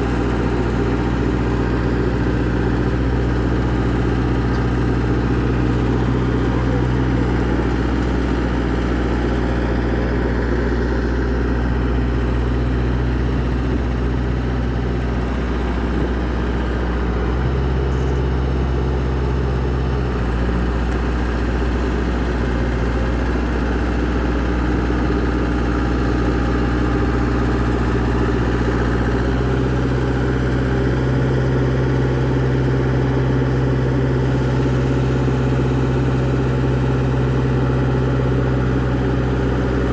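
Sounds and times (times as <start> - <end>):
excavator engine idling: 0.0 - 39.9.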